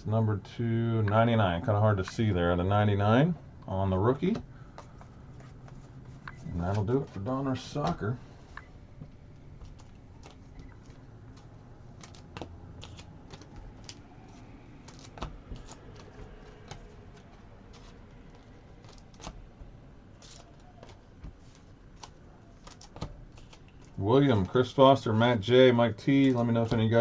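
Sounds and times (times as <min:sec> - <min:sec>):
trading cards being handled: 0:04.2 - 0:27.0.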